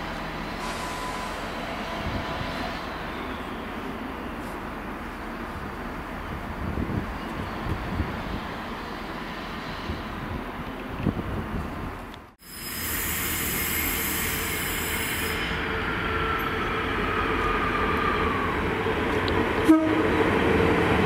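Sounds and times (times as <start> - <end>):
train engine and wheels on rails: 0.0 - 21.0.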